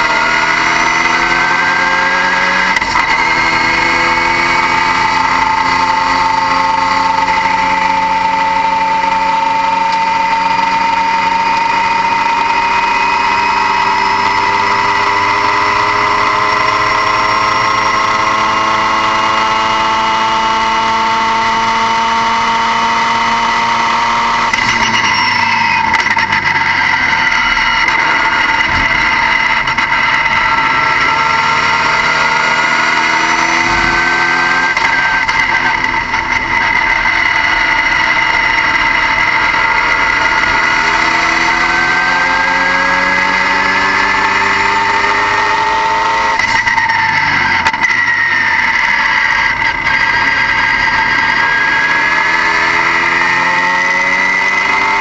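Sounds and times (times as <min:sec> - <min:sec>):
vehicle engine with high whine: 0:00.0 - 0:55.0.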